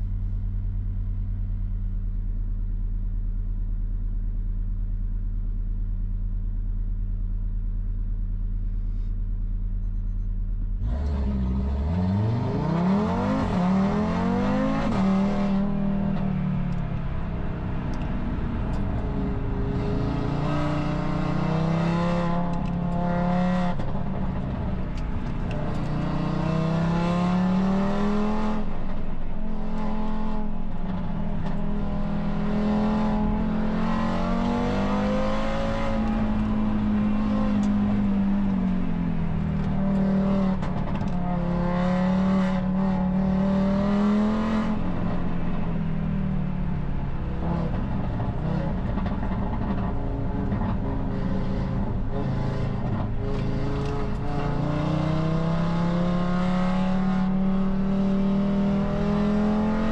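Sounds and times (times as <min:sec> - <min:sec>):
car engine revving inside cabin: 0:10.8 - 0:59.9.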